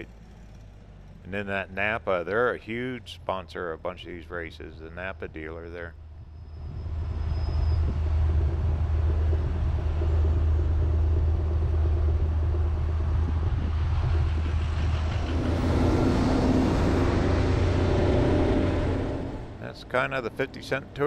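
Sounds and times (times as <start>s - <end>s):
road noise: 0.0s - 21.0s
vehicle engine drone: 0.0s - 21.0s.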